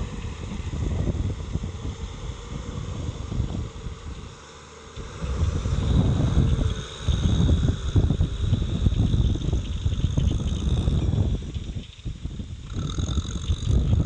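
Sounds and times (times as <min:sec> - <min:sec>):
tractor diesel engine running: 0:00.0 - 0:14.0
wind buffeting microphone: 0:00.0 - 0:14.0.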